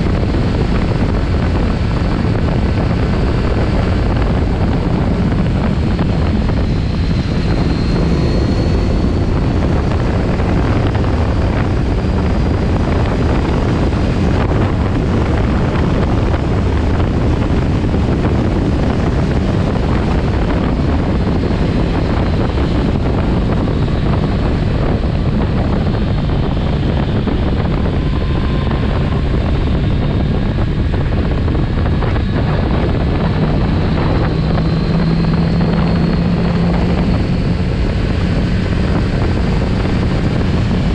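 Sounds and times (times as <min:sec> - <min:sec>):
motorcycle engine running: 0:00.0 - 0:40.9
wind rush over microphone: 0:00.0 - 0:40.9.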